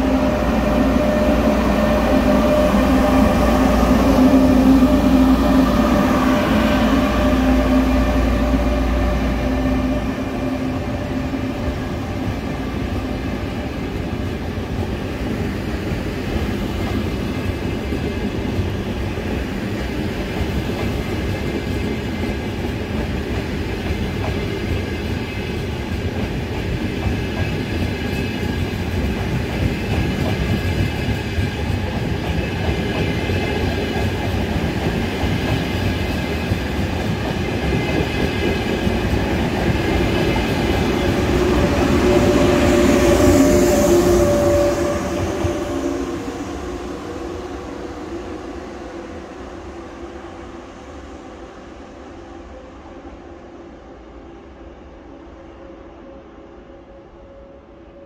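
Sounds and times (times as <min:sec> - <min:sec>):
train wheels rumbling: 0:00.0 - 0:50.2
train power car hum and whine: 0:00.0 - 0:58.0.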